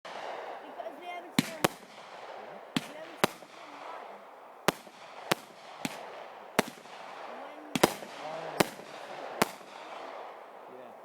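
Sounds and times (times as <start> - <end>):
fireworks bangs: 0.1 - 11.0.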